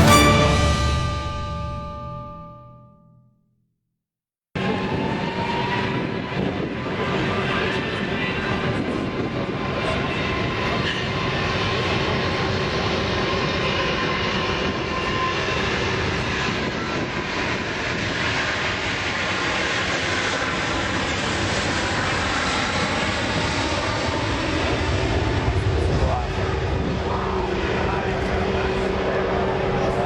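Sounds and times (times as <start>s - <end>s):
aircraft engines roaring: 5.0s - 30.0s.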